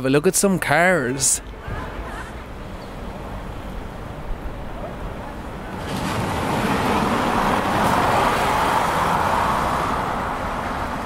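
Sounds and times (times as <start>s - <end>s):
road vehicle passing: 1.1s - 11.0s.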